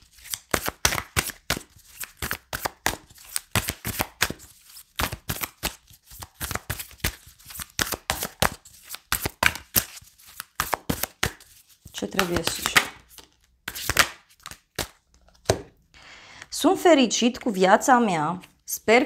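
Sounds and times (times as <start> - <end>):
cards being shuffled: 0.0 - 15.8.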